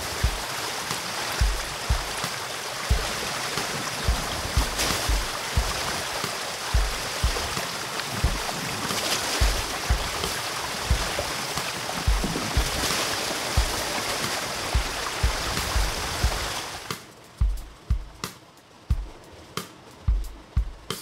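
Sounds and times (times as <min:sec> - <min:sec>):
background music with bass drum: 0:00.0 - 0:13.0, 0:13.6 - 0:21.0
steady rushing hiss: 0:00.0 - 0:21.0.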